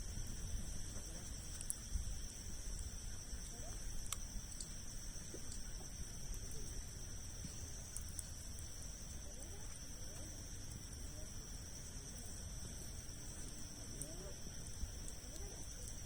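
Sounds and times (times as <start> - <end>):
campfire crackles: 0.0 - 16.0
crickets trilling: 0.0 - 16.0.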